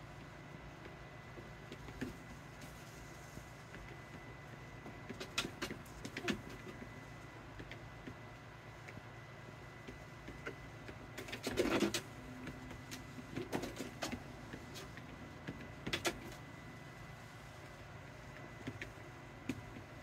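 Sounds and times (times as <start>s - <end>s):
treadmill motor humming: 0.0s - 20.0s.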